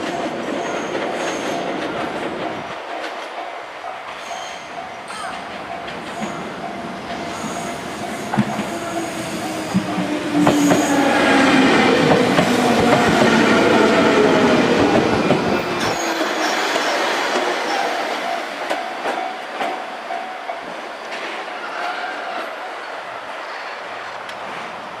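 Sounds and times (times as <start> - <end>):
train wheels clacking on rail joints: 0.0 - 22.0.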